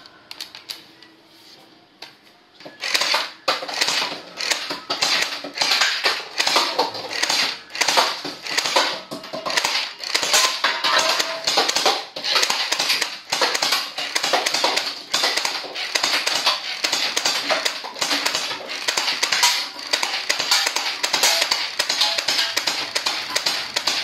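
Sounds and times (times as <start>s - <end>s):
beads hitting targets: 2.8s - 24.0s
toy blaster firing rapid bursts: 2.8s - 24.0s.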